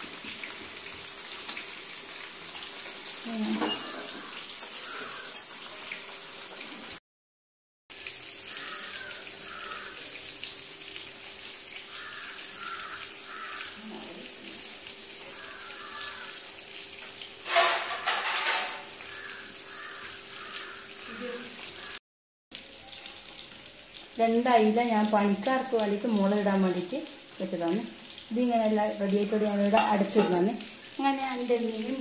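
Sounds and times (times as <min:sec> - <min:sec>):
fish sizzling in oil: 0:00.0 - 0:07.0, 0:07.9 - 0:32.0.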